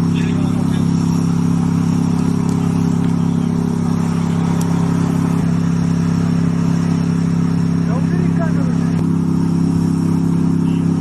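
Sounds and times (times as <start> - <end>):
road noise: 0.0 - 11.0
vehicle engine drone: 0.0 - 11.0.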